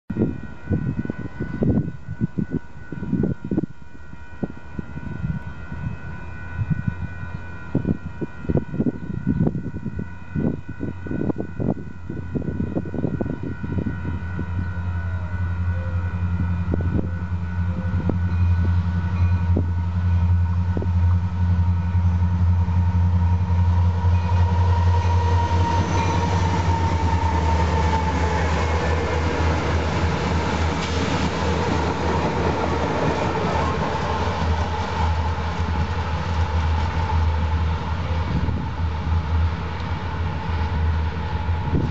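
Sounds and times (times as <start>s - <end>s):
steady chord of high tones: 0.1s - 41.8s
diesel locomotives engine drone: 0.1s - 41.9s.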